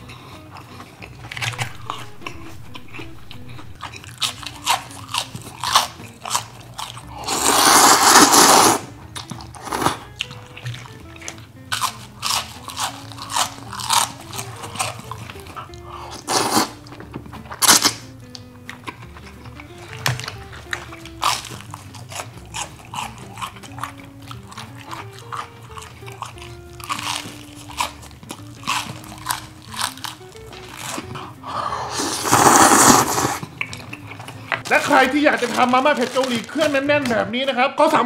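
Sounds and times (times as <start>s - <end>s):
crunchy chewing: 0.0s - 36.8s
background music: 0.0s - 38.0s.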